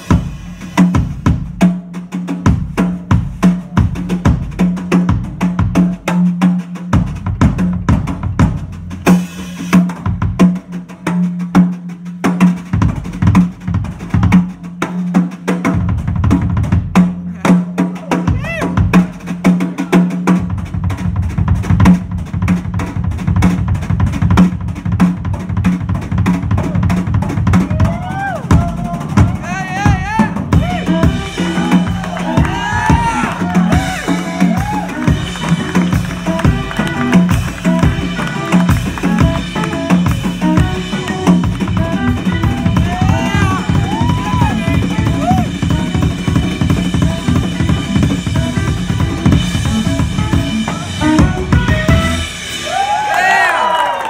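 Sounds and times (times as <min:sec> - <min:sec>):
drum kit groove: 0:00.0 - 0:54.0.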